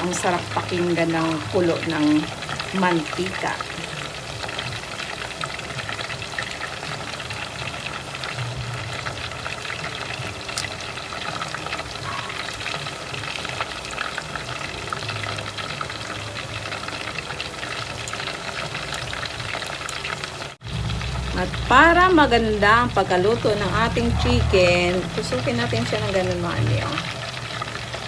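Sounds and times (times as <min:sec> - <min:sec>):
chicken deep-frying in oil: 0:00.0 - 0:28.0.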